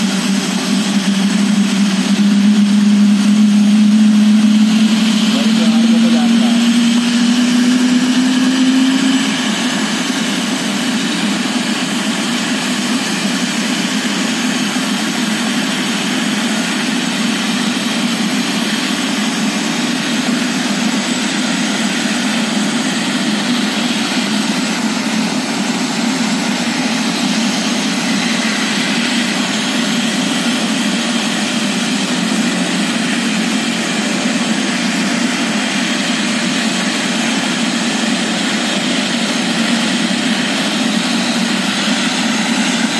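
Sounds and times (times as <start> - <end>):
helicopter idling: 0.0 - 42.9.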